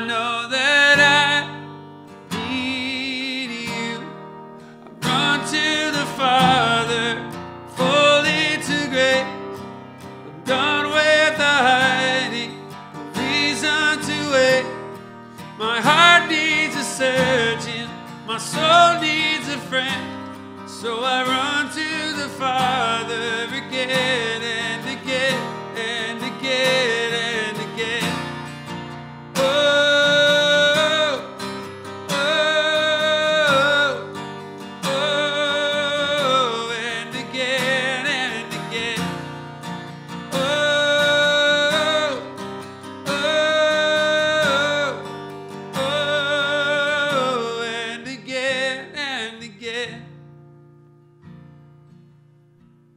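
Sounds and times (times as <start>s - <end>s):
man singing: 0.0s - 50.2s
strummed acoustic guitar: 0.0s - 52.9s.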